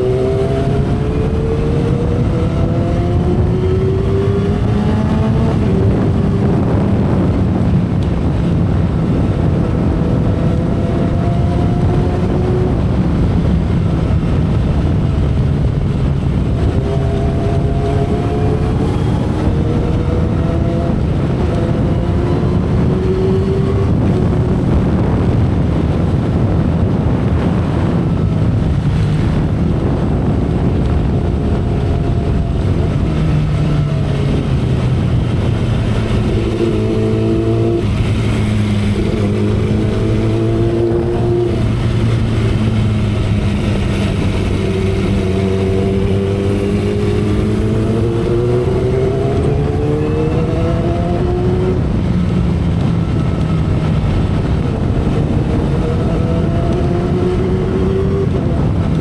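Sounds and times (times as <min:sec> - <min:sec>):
heavy wind rush: 0:00.0 - 0:59.0
motorcycle engine and exhaust: 0:00.0 - 0:59.0.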